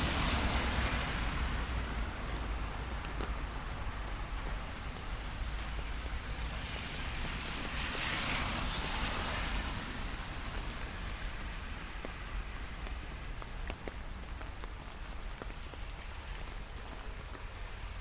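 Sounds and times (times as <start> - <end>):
steady rain: 0.0 - 18.0
tyres hissing on wet asphalt: 0.0 - 18.0
wet road traffic: 0.0 - 18.0.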